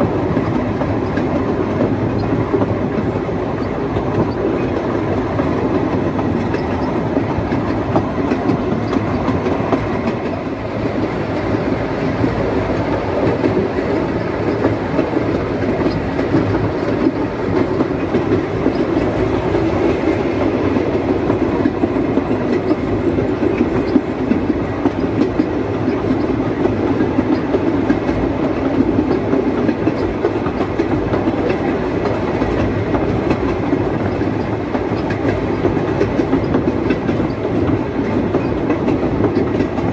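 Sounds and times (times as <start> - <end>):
steam locomotive clattering on rails: 0.0 - 39.9.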